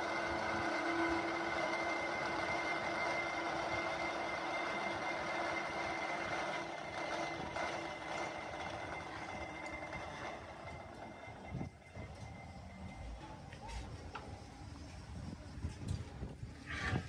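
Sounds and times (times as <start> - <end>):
drill press whine: 0.0 - 17.0.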